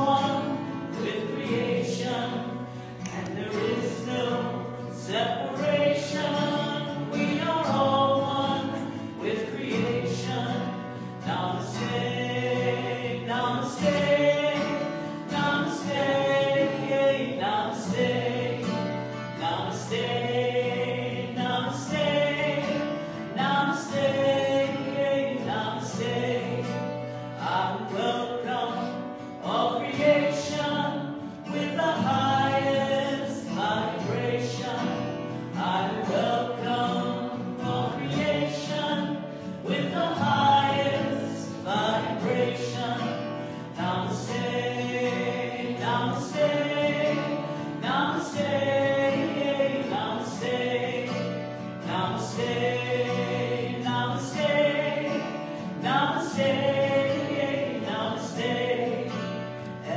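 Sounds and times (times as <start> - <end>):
strummed acoustic guitar: 0.0 - 59.9
woman and man singing: 0.0 - 59.9.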